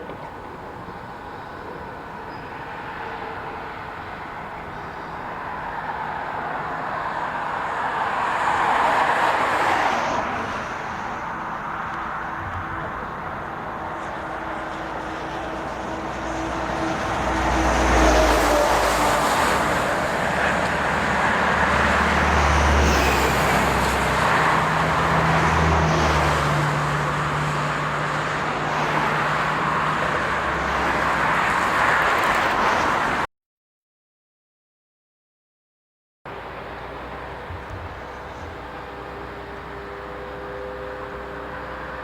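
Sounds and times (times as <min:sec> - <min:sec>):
traffic noise: 0:00.0 - 0:33.3, 0:36.3 - 0:42.0.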